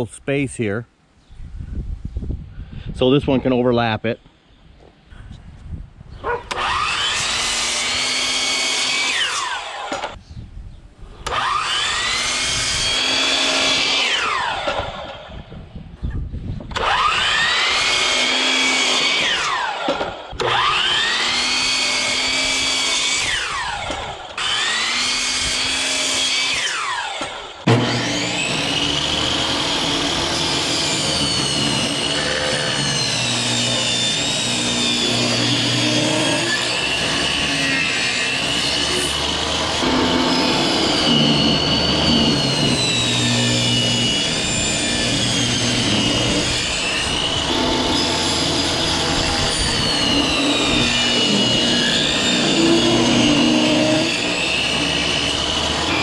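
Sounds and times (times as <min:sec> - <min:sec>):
miter saw cutting wood: 0:06.3 - 0:10.2, 0:11.2 - 0:15.5, 0:16.6 - 0:56.0
table saw running: 0:06.5 - 0:10.2, 0:11.2 - 0:15.4, 0:16.7 - 0:56.0.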